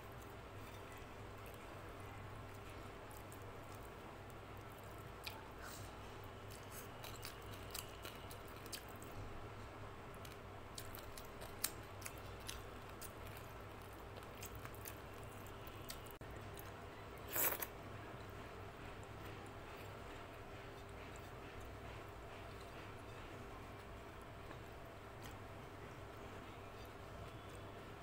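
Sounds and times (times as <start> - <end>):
soft chewing: 0.0 - 9.2, 10.1 - 28.0
faint steady hum: 0.0 - 28.0.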